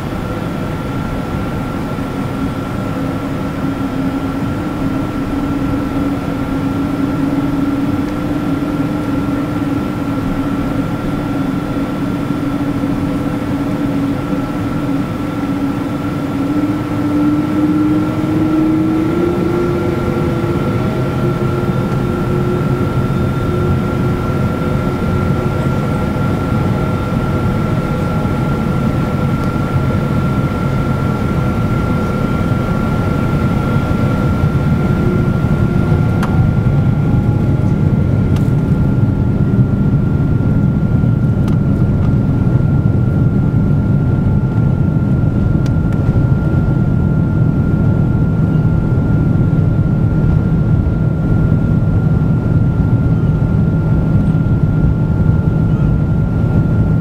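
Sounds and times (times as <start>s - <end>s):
jet engine drone with high whine: 0.0s - 57.0s.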